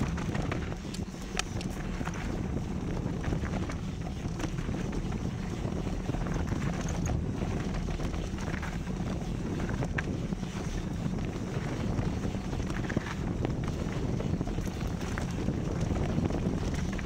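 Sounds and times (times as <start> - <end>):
gravel and bike rattles: 0.0 - 17.0
tyres rolling on dirt: 0.0 - 17.0
wind buffeting microphone: 0.0 - 17.0.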